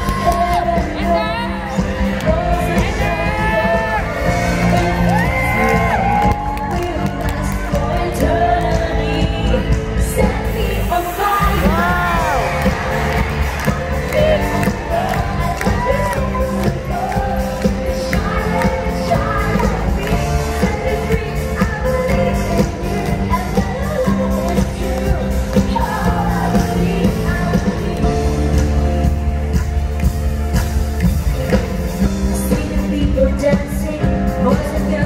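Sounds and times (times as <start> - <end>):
person singing: 0.0 - 30.4
live pop-rock band playing: 0.0 - 35.0
steady bass: 0.0 - 35.0.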